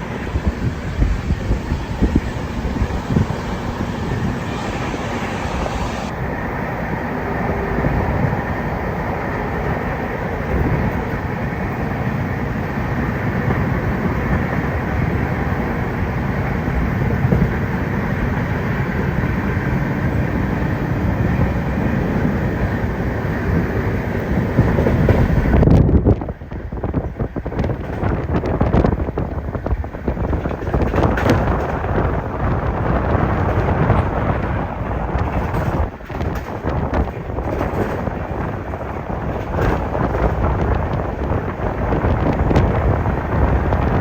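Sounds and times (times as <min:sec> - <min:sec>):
train rumble and rattle: 0:00.0 - 0:44.0
wind on microphone: 0:00.0 - 0:44.0.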